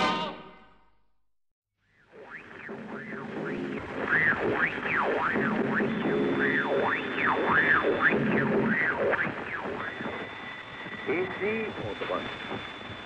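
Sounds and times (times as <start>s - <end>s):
thin steady whine: 1.9s - 13.0s
radio static with whistles: 2.0s - 13.0s
garbled radio broadcast: 2.2s - 12.7s.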